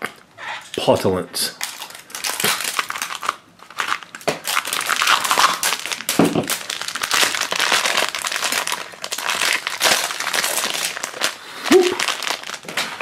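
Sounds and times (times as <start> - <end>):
plastic wrapper crinkling: 1.6 - 13.0.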